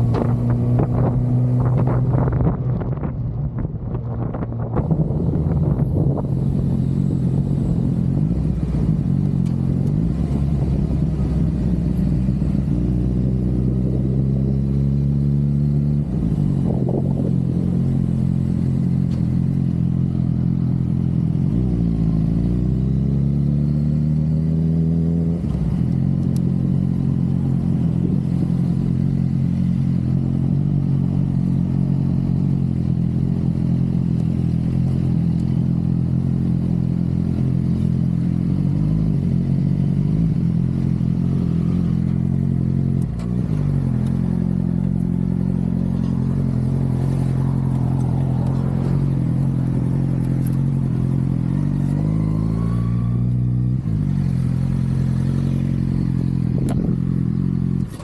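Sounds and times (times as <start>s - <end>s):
motorcycle engine revving: 4.4s - 58.0s.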